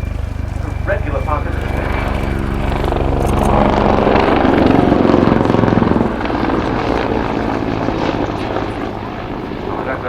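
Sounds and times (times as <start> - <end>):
helicopter engines: 0.0 - 10.0
helicopter rotor blade slap: 0.0 - 10.0.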